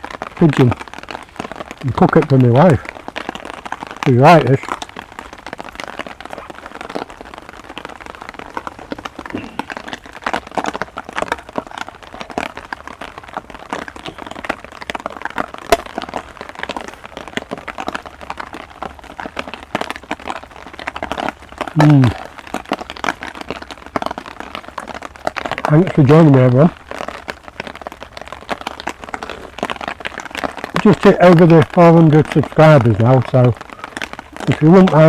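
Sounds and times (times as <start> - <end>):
heavy rain falling: 0.0 - 35.0
raindrops tapping near microphone: 0.0 - 35.0.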